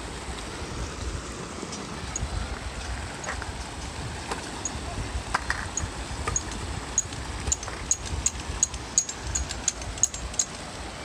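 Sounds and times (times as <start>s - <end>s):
rushing floodwater: 0.0s - 11.0s
wind buffeting microphone: 0.0s - 11.0s.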